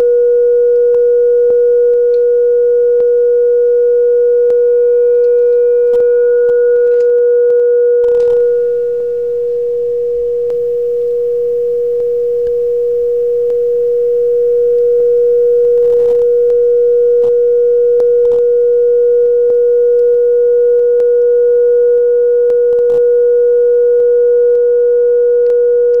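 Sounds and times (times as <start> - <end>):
pure steady tone singing: 0.0 - 26.0.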